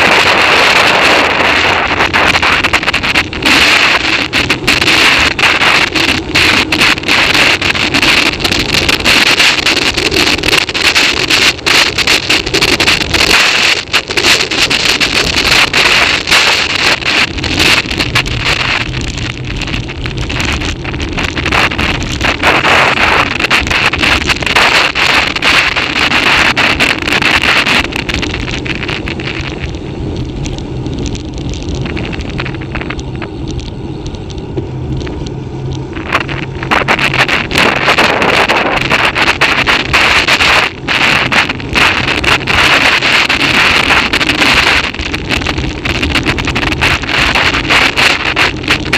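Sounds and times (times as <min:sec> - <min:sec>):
wind buffeting on microphone: 0:00.0 - 0:48.9.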